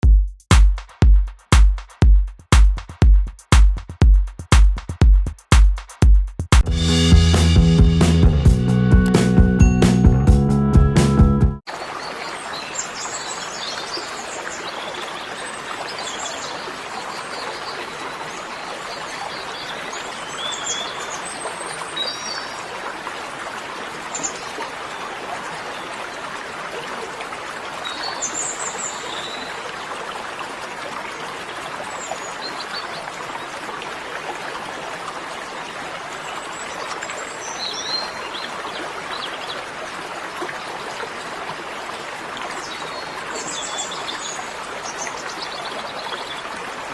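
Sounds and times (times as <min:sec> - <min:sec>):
rushing water: 0:06.6 - 0:10.2, 0:11.6 - 0:46.9.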